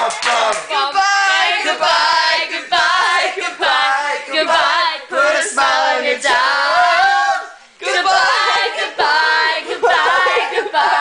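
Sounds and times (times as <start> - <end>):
group singing unaccompanied: 0.4 - 11.0.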